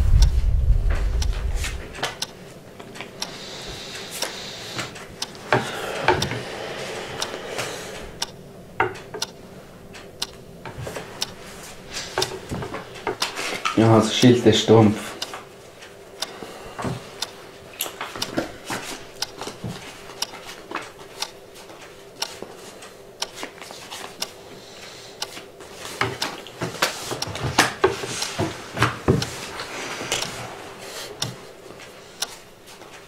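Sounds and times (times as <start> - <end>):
faint hum: 0.0 - 32.8.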